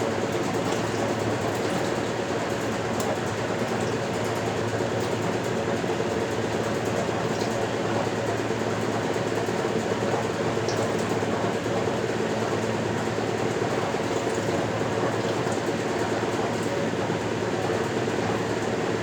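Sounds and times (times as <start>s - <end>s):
washing machine running: 0.0s - 19.0s.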